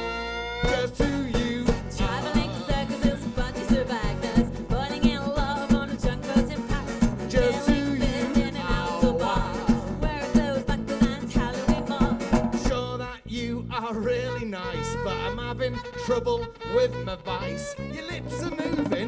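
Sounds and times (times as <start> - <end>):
folk-rock band playing: 0.0 - 13.0, 15.9 - 19.0.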